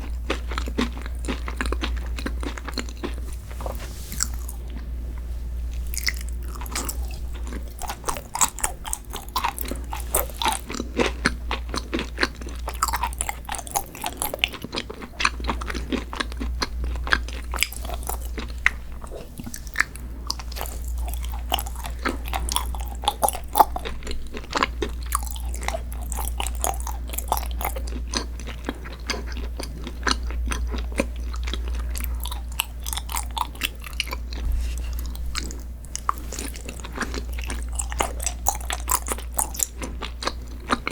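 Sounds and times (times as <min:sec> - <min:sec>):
wet chewing: 0:00.0 - 0:04.9, 0:05.7 - 0:40.9
steady low hum: 0:00.0 - 0:40.9.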